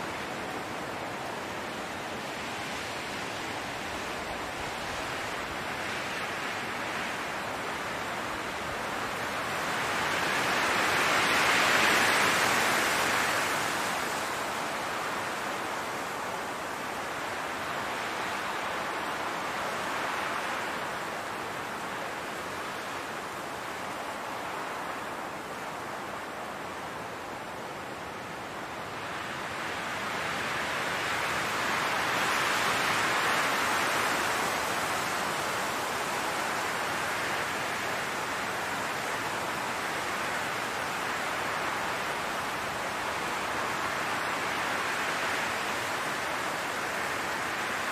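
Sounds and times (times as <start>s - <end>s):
wind blowing through grass: 0.0s - 47.9s.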